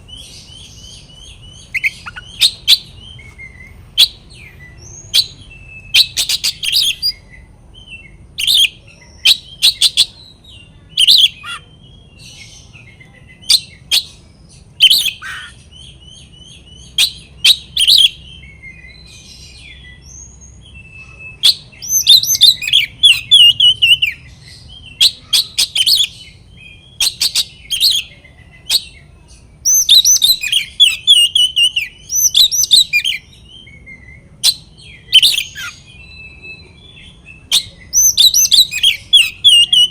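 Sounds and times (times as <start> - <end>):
songbird whistling and trilling: 0.0 - 39.9.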